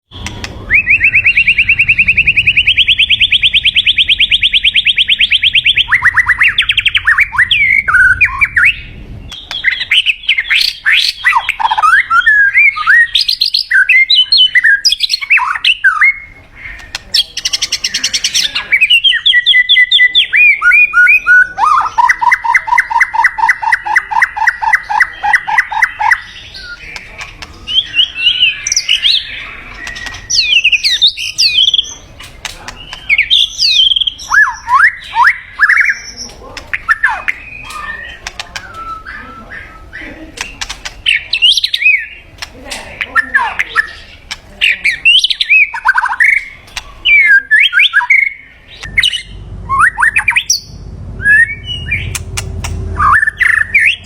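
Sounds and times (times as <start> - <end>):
bird whistled phrases: 0.1 - 32.0, 32.8 - 42.2, 44.7 - 52.2, 53.0 - 54.0
bird trilling: 0.1 - 54.0.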